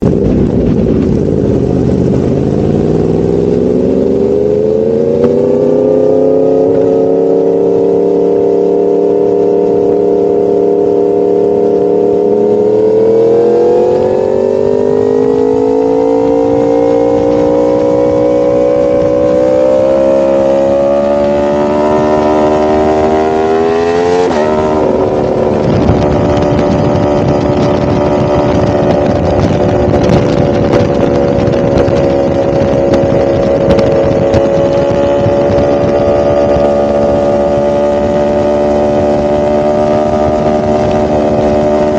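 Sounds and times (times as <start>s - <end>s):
motorcycle engine accelerating: 0.0s - 41.9s
wind rushing noise: 0.0s - 41.9s.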